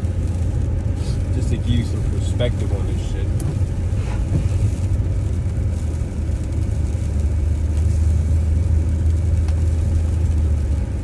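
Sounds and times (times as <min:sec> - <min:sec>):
engine and road drone in car: 0:00.0 - 0:11.0.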